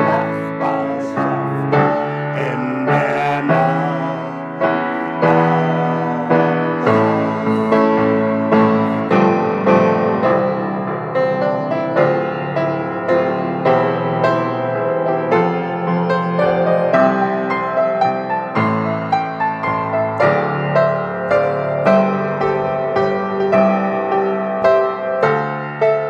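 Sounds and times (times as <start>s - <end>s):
grand piano playing: 0.0s - 26.0s.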